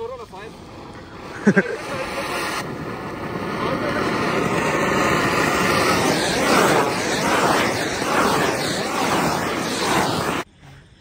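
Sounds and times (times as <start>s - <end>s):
fireworks rushing hiss: 0.0s - 10.5s.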